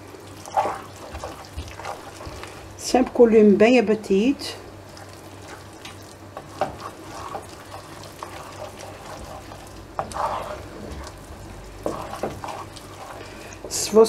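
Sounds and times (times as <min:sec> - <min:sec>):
wooden spoon scraping a pan: 0:00.4 - 0:02.7, 0:04.9 - 0:14.0.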